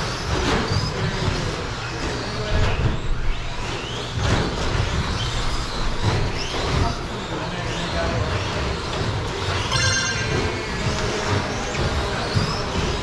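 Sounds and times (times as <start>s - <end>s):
electric toy car motors whining: 0.0s - 13.0s.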